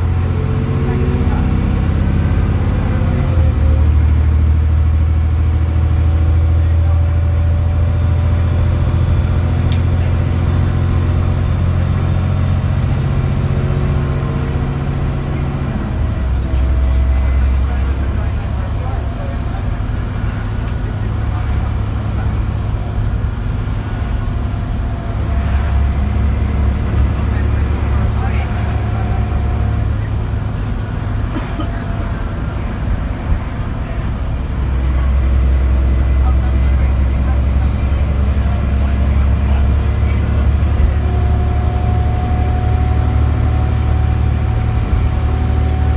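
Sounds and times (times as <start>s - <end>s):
bus diesel engine drone: 0.0s - 45.9s
road and body noise: 0.0s - 45.9s.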